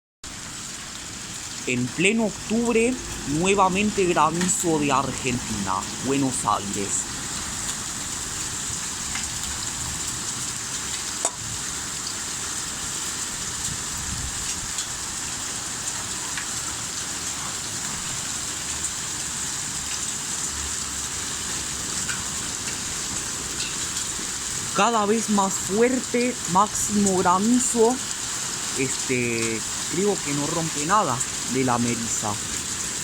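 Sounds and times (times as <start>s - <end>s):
heavy rain hiss: 0.3s - 33.0s.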